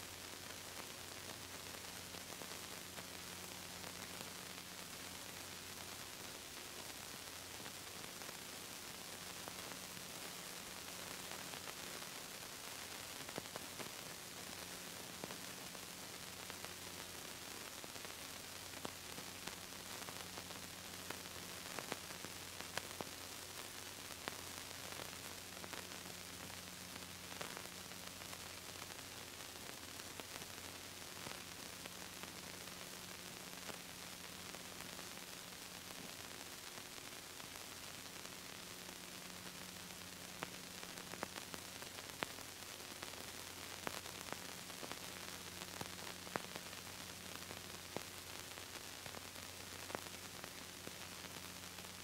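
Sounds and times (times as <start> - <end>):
tape hiss and static: 0.0 - 52.0.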